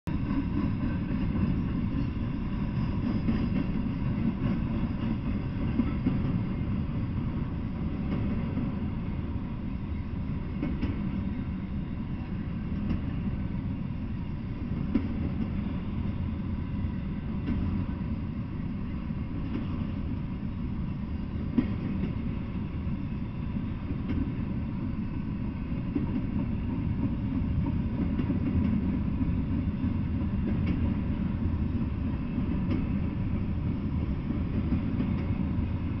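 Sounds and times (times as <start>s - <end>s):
freight train rumbling past: 0.1s - 36.0s.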